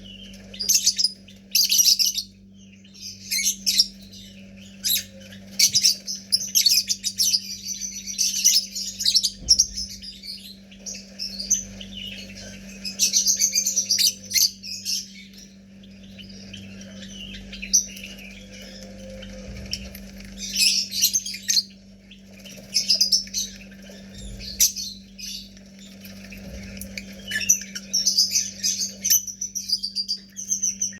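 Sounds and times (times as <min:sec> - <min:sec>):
lovebirds chirping: 0:00.0 - 0:30.9
steady low hum: 0:00.0 - 0:30.9.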